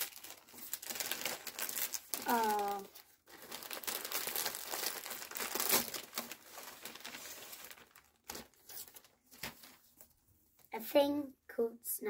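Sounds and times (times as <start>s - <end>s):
wrapping paper tearing and crinkling: 0.0s - 10.0s.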